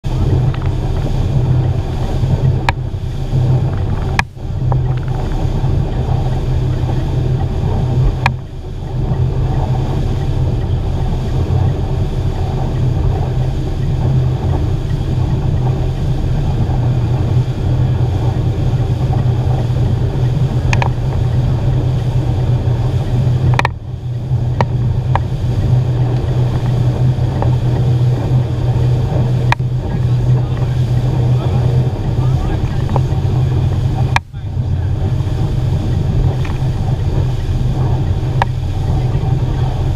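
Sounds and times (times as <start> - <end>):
churning wake: 0.0 - 39.9
outboard motor running: 0.0 - 39.9
wind: 0.0 - 39.9.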